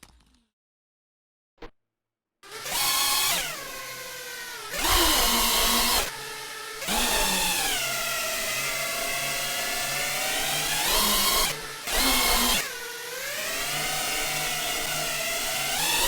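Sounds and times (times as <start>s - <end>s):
quadcopter motors and propellers whining: 2.4s - 16.0s.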